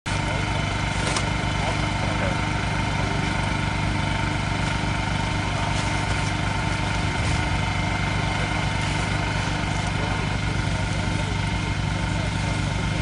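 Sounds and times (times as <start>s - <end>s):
engine running steadily: 0.1s - 13.0s.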